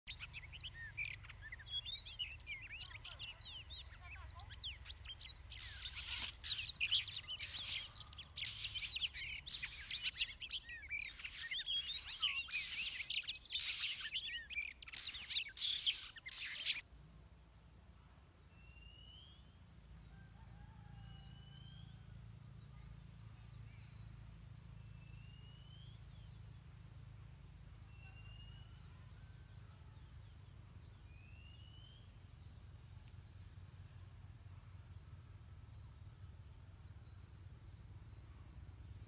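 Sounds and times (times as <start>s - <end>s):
birds singing whistles and chirps: 0.0s - 16.9s, 18.2s - 39.0s.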